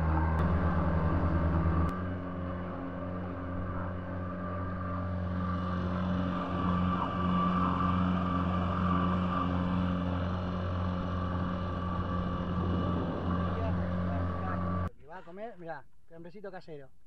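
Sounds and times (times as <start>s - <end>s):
outboard motor running: 0.0s - 14.9s.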